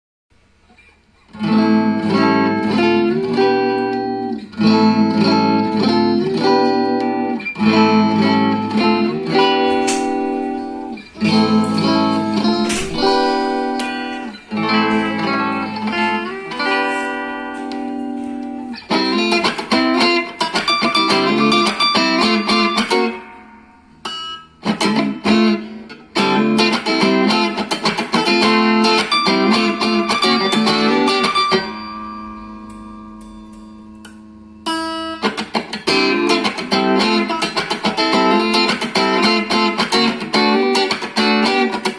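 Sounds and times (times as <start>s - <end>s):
electric guitar picked chords: 1.3s - 41.9s.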